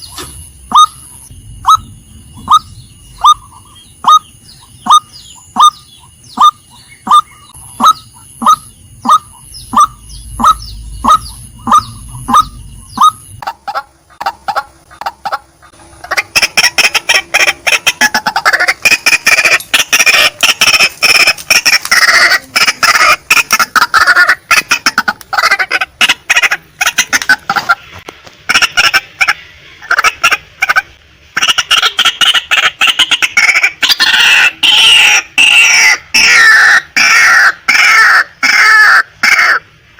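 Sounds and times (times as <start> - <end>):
waterhen calling: 0.0 - 39.7.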